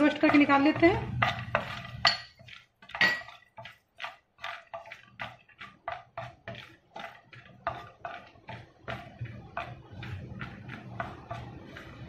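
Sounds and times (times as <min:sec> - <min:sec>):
wooden spatula scraping pan: 0:00.0 - 0:12.0.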